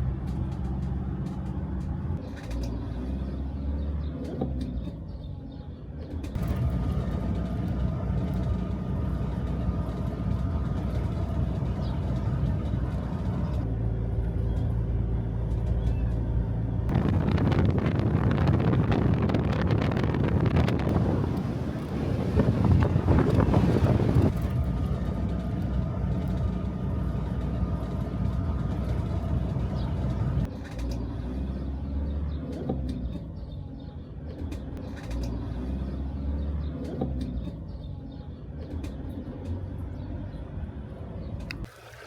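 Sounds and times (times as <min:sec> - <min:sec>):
van engine and road rumble: 0:00.0 - 0:42.0.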